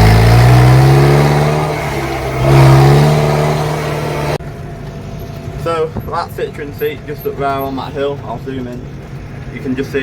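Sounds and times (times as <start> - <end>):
tractor engine under load: 0.0 - 10.0.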